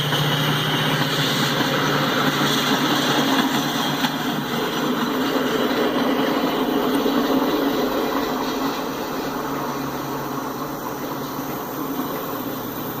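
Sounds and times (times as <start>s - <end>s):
freight train rolling past: 0.0s - 13.0s.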